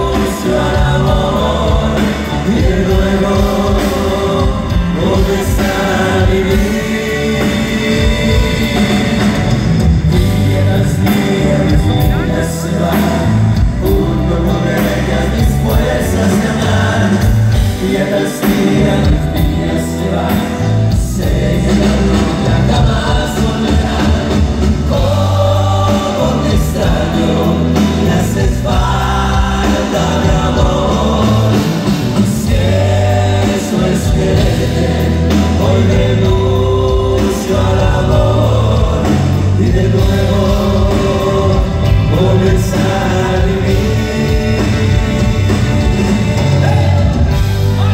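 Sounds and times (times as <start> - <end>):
live band with guitars and drums: 0.0 - 47.9
men singing together: 0.0 - 47.9.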